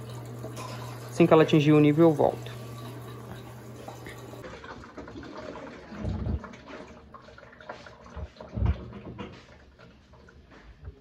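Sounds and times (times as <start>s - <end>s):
water filling washing machine: 0.0s - 11.0s.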